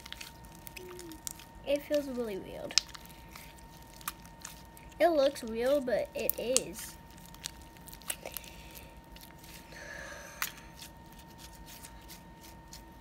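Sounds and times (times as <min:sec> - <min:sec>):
slime squelching and clicking: 0:00.0 - 0:09.6, 0:10.4 - 0:11.9.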